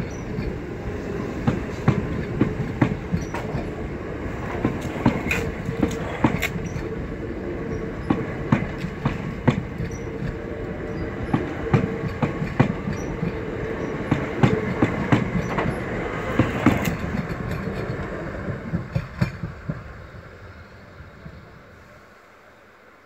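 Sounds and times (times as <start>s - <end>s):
train wheels clickety-clack: 0.0s - 7.0s, 7.6s - 20.1s
train low hum: 0.0s - 23.0s.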